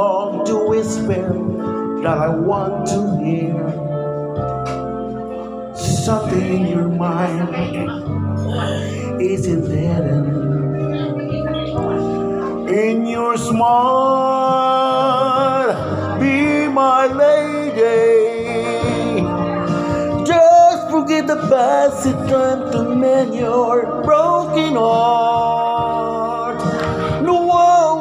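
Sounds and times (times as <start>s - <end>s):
karaoke music over speakers: 0.0s - 28.0s.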